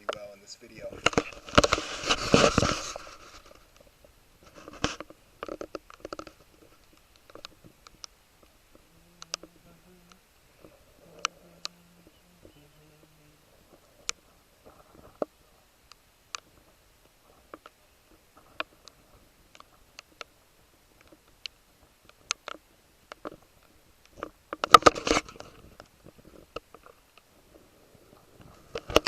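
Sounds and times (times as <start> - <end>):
raindrops ticking: 0.0 - 27.6.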